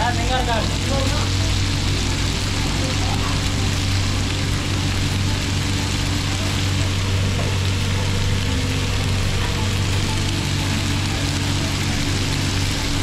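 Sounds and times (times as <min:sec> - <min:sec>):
food sizzling in a wok: 0:00.0 - 0:13.0
low hum: 0:00.0 - 0:13.0.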